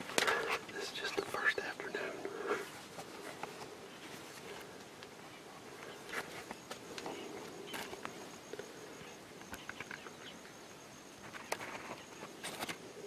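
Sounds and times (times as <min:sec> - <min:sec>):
crackles and rustles of brush: 0:00.0 - 0:13.0.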